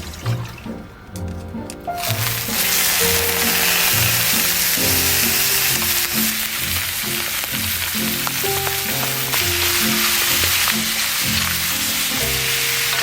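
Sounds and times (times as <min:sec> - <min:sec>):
background music: 0:00.0 - 0:13.0
food sizzling in a frying pan: 0:02.0 - 0:13.0.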